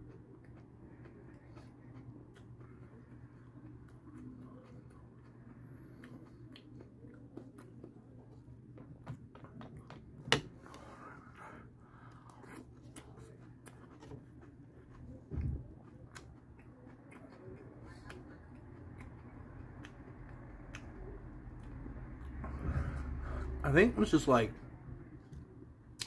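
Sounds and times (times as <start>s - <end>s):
chewing and crunching cereal: 0.0s - 22.6s.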